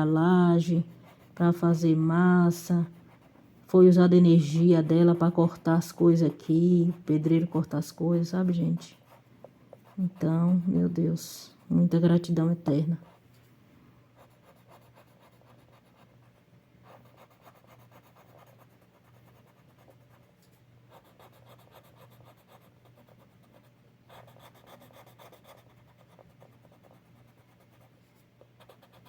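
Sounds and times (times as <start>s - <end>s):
low steady hum: 0.0s - 29.0s
pencil scratching on paper: 0.2s - 13.2s, 14.2s - 16.2s, 16.9s - 20.3s, 20.9s - 27.9s, 28.6s - 29.0s.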